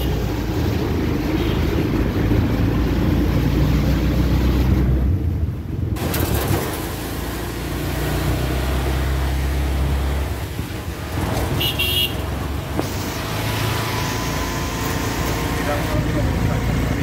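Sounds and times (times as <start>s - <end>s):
auto-rickshaw engine running: 0.0s - 17.0s.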